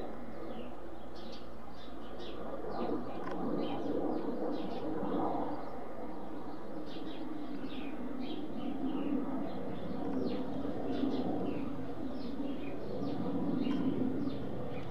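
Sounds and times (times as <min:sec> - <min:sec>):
jet aircraft drone overhead: 0:00.0 - 0:14.9
small birds twittering: 0:00.0 - 0:14.9.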